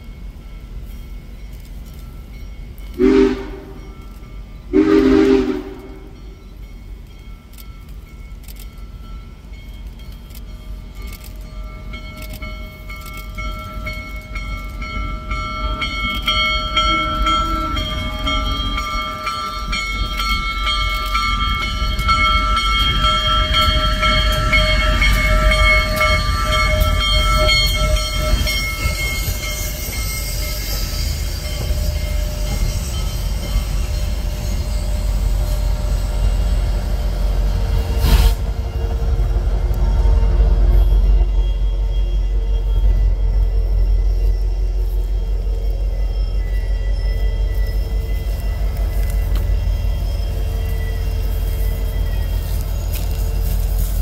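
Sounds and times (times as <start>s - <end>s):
deep rumble of passing train: 0.0s - 54.0s
steam locomotive chime whistle: 0.0s - 54.0s.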